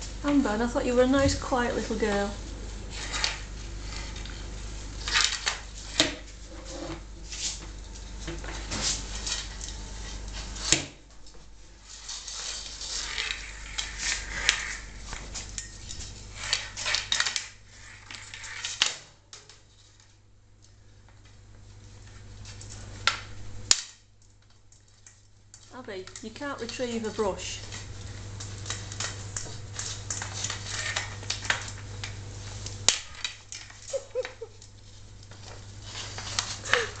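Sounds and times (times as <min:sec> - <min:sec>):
plastic brush scraping tiled floor: 0:00.0 - 0:10.9, 0:11.7 - 0:20.2, 0:26.6 - 0:37.0.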